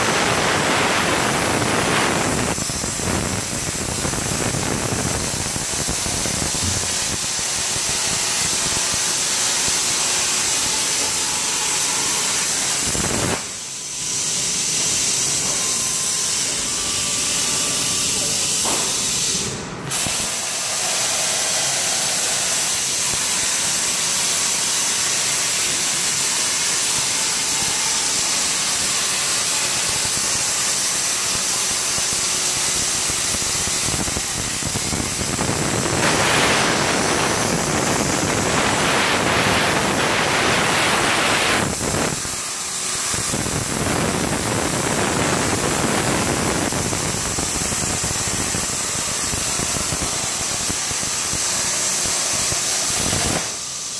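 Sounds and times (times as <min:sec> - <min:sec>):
plasma cutter torch hissing: 0:00.0 - 0:53.9.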